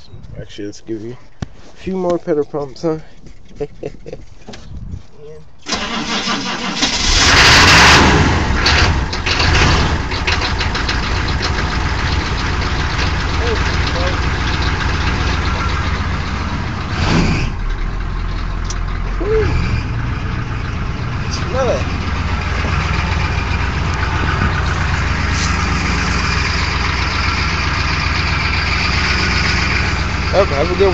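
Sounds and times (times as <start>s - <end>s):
diesel engine revving and idling: 5.7s - 30.9s.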